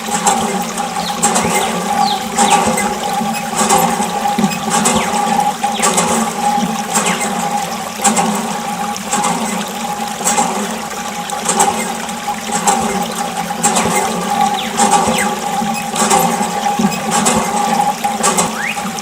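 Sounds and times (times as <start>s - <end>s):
electric water pump humming: 0.0s - 19.0s
water gushing and splashing: 0.0s - 19.0s.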